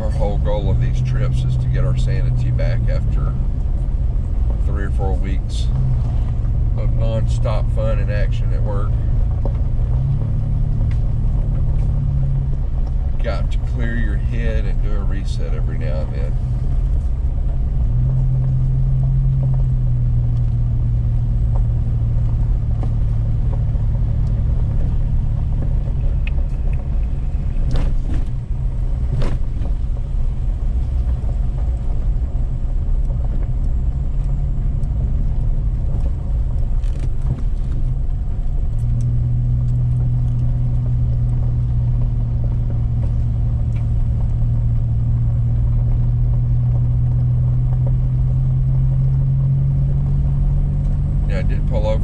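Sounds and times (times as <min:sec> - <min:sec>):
truck engine and road drone: 0:00.0 - 0:52.0.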